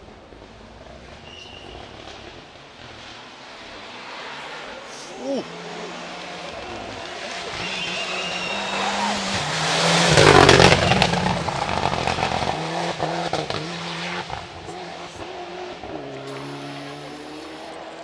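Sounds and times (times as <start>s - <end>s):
rally car passing: 0.0s - 18.0s.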